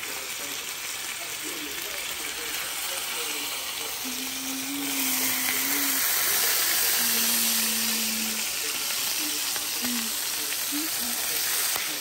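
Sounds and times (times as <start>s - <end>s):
steaks sizzling in a skillet: 0.0s - 12.0s.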